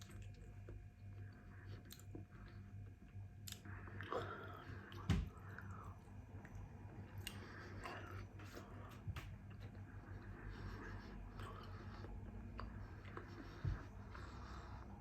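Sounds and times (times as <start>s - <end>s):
chewing and mouth sounds: 0.0s - 14.6s.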